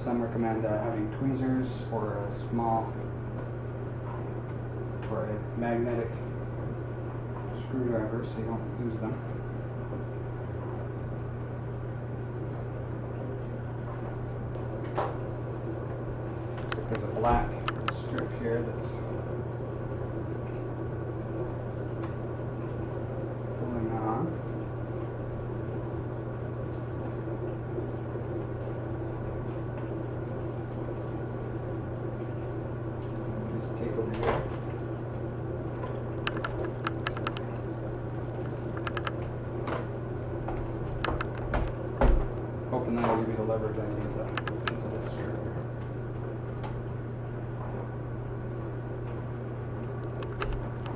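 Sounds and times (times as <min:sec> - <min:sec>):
low background hum: 0:00.0 - 0:50.9.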